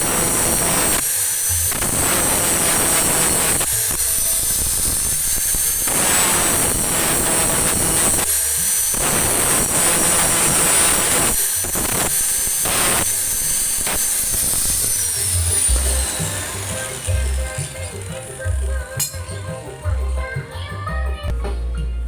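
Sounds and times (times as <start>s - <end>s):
angle grinder grinding metal: 0.0s - 21.3s.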